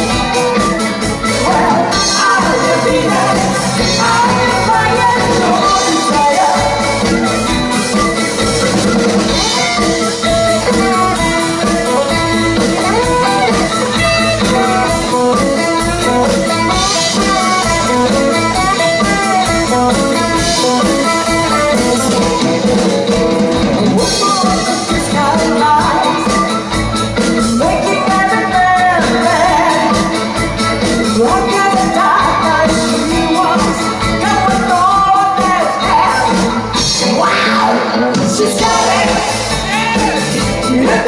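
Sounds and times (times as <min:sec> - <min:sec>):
drum kit steady beat: 0:00.0 - 0:37.2, 0:37.9 - 0:41.0
electric guitar: 0:00.0 - 0:41.0.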